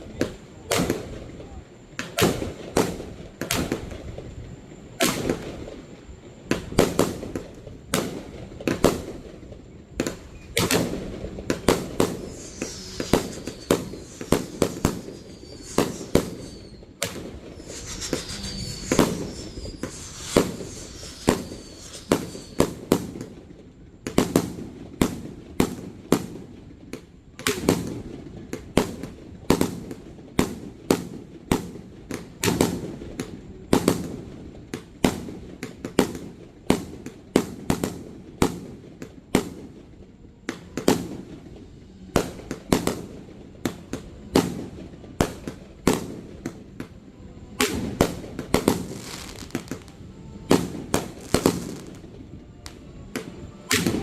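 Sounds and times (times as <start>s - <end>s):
fireworks bangs with echo: 0.0s - 4.3s, 4.9s - 54.0s.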